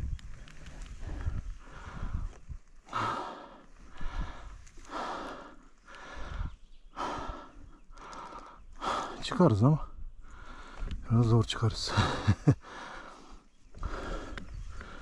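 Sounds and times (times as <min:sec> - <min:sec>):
person breathing hard: 0:00.9 - 0:09.2, 0:10.2 - 0:11.0, 0:11.9 - 0:15.0.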